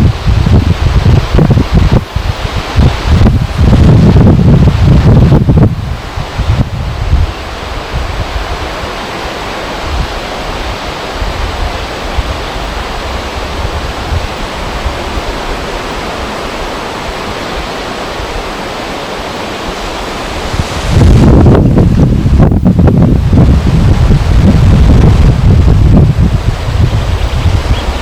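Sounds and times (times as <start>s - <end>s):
wind blowing: 0.0s - 28.0s
wind buffeting microphone: 0.0s - 28.0s.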